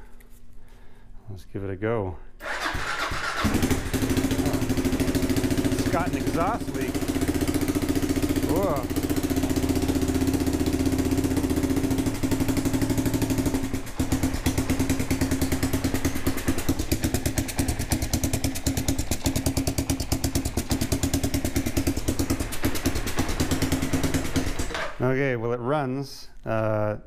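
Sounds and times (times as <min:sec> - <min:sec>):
motorcycle engine idling: 0:02.4 - 0:25.0.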